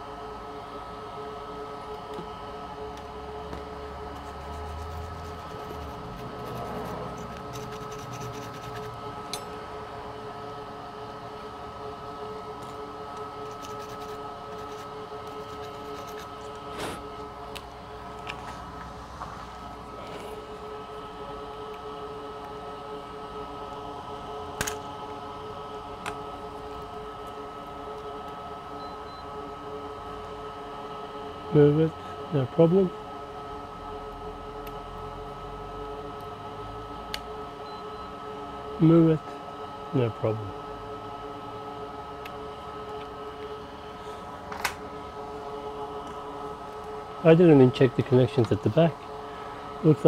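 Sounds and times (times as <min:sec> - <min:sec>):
electrical hum: 0:00.0 - 0:50.0.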